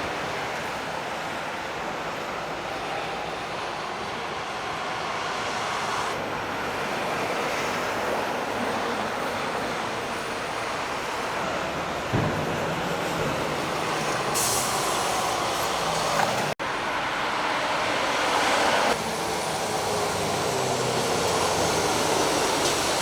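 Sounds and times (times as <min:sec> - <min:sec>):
lorries driving past: 0:00.0 - 0:23.0.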